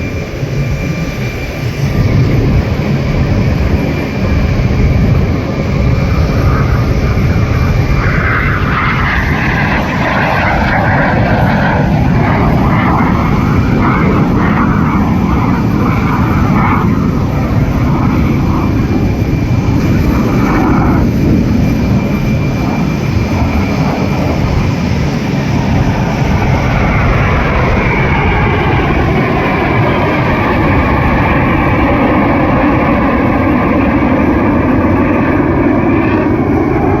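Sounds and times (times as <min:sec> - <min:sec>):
jet aircraft roar: 0:00.0 - 0:37.0.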